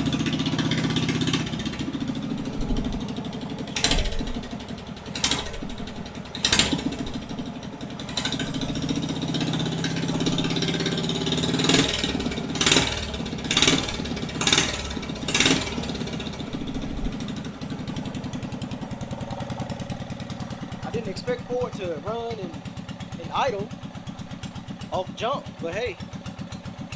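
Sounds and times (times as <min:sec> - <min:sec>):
go-kart engine running rough: 0:00.0 - 0:26.9
loud exhaust bursts: 0:00.0 - 0:26.9.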